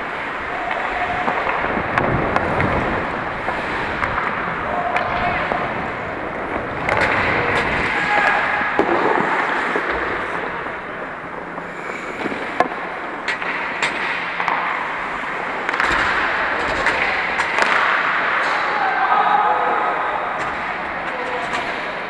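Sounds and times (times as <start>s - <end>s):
hockey sticks and puck clacks: 0.0s - 22.0s
skate blades scraping ice: 0.2s - 18.6s.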